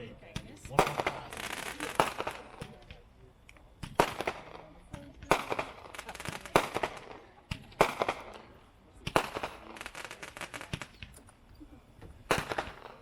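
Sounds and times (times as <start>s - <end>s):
firework bursts: 0.0s - 13.0s.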